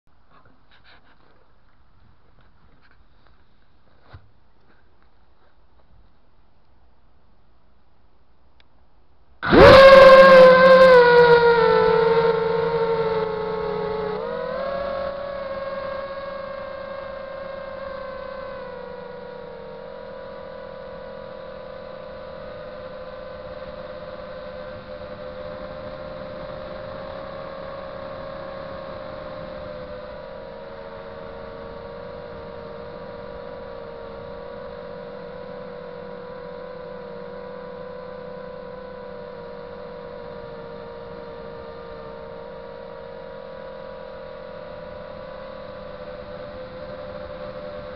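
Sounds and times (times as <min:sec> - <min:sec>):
drone motors and propellers whining: 0:09.4 - 0:47.9.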